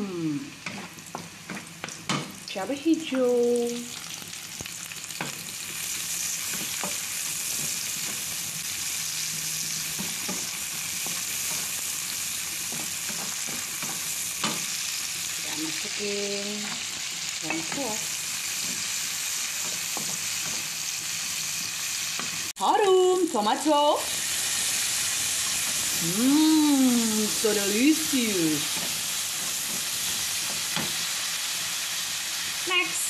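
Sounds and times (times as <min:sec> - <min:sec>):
garlic sizzling in hot oil: 0:00.0 - 0:33.0.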